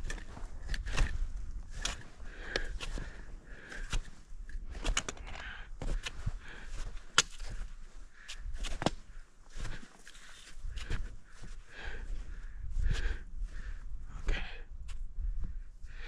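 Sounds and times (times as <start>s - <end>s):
footsteps clicking and crunching: 0.0s - 13.2s.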